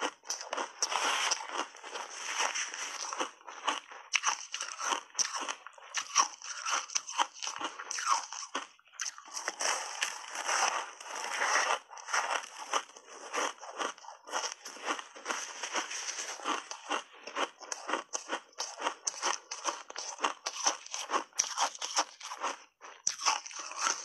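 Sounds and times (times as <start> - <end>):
ice crunching between teeth: 0.0 - 24.0.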